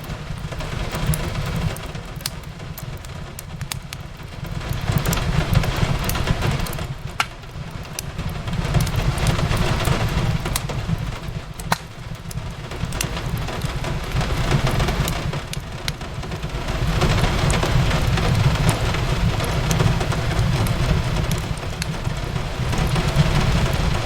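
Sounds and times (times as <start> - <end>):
fireplace crackling and popping: 0.0 - 24.0
steady rain hiss: 0.0 - 24.0.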